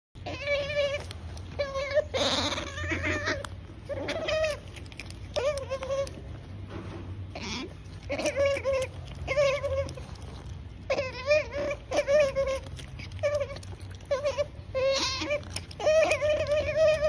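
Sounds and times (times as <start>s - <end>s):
otter squeaky calls: 0.2s - 6.3s, 7.3s - 17.0s.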